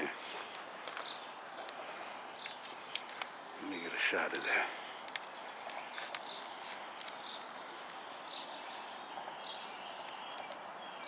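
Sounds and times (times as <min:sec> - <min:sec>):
outdoor background hiss: 0:00.0 - 0:11.0
small birds chirping: 0:00.0 - 0:11.0.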